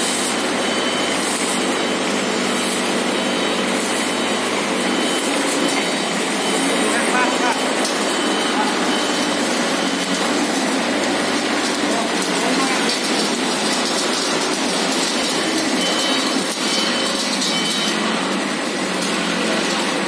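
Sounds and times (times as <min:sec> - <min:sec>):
packing machine running: 0:00.0 - 0:20.0.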